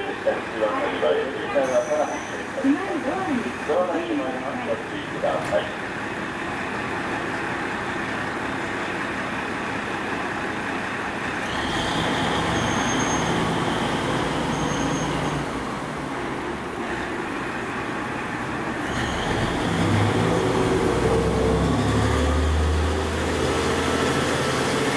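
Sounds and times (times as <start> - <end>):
train running rumble: 0.0 - 24.9.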